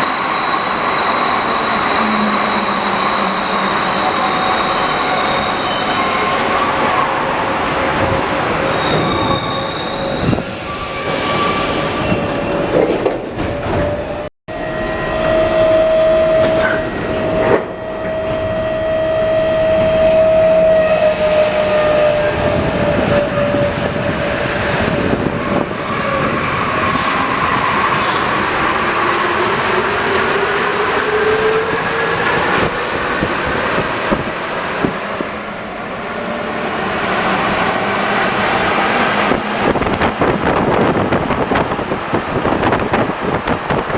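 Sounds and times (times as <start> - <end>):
metro train rolling noise: 0.0 - 43.9.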